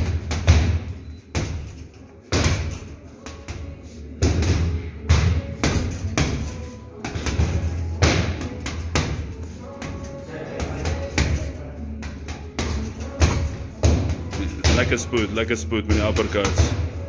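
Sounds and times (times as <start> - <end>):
gloves punching heavy bags: 0.0 - 17.0.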